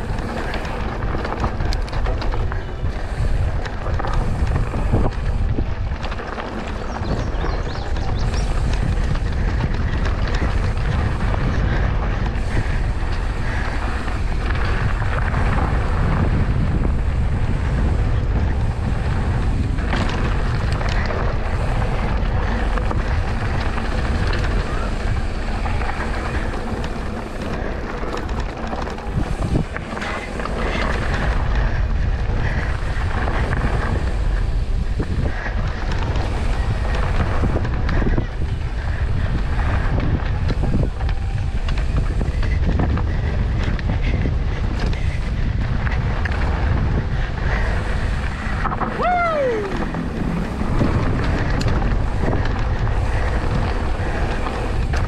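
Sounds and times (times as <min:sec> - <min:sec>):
tyres rumbling on dirt: 0:00.0 - 0:55.0
wind rushing over microphone: 0:00.0 - 0:55.0.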